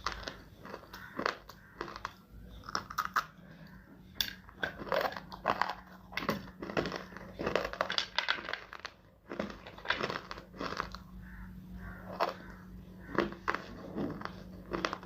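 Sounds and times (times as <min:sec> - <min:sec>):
crunchy chewing close up: 0:00.0 - 0:15.0.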